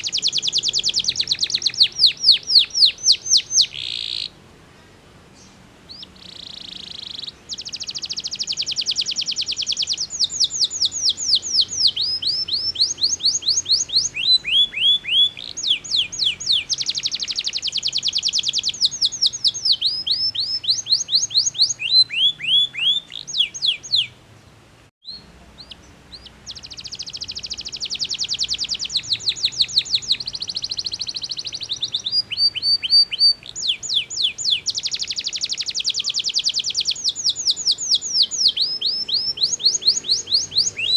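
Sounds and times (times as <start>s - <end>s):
canary singing trills: 0.0s - 4.4s, 5.3s - 40.9s.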